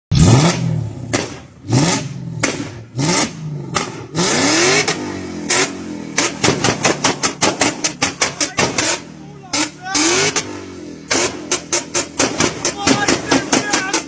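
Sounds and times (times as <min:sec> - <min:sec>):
car engine revving: 0:00.1 - 0:14.0
exhaust bangs: 0:00.1 - 0:14.0.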